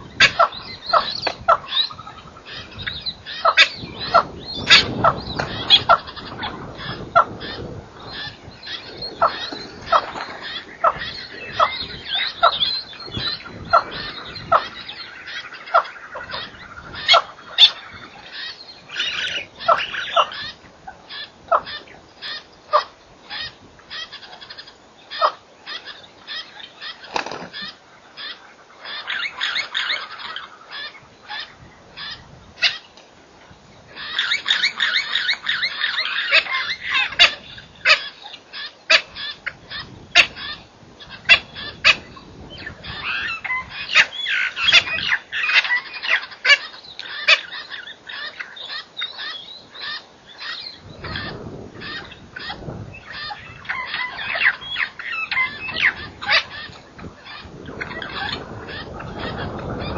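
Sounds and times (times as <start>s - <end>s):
birds calling and chattering: 0.0s - 59.9s.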